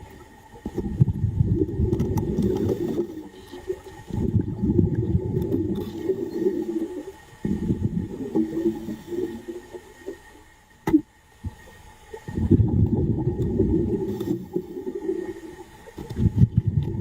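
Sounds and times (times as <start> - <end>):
underwater exhaled breath bubbling: 0.7 - 10.1, 12.2 - 17.0.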